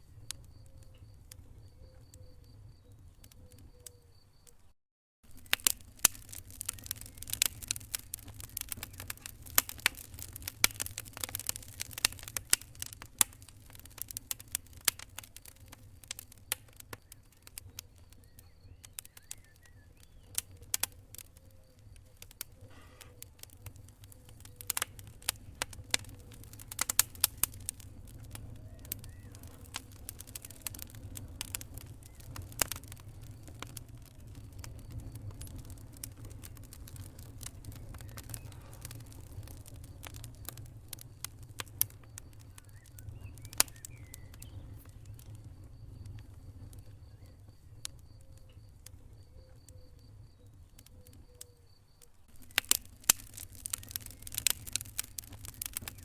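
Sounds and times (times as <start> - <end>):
wood fire crackling and popping: 0.0 - 4.5, 5.2 - 56.0.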